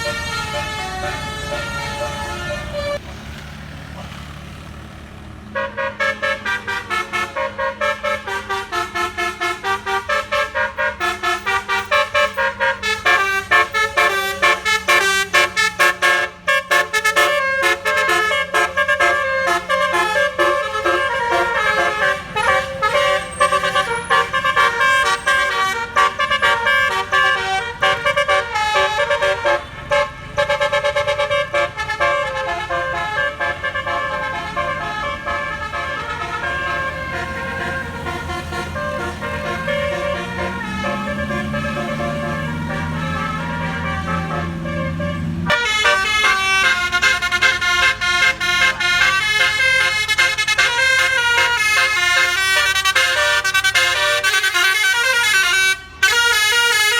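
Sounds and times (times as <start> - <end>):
tuned air horns playing melody: 0.0 - 3.0, 5.6 - 56.9
bus engine drone: 0.0 - 56.9.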